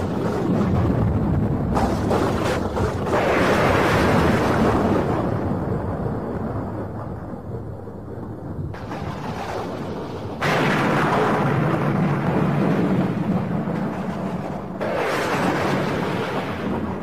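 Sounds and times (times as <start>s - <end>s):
rumbling noise: 0.0s - 17.0s.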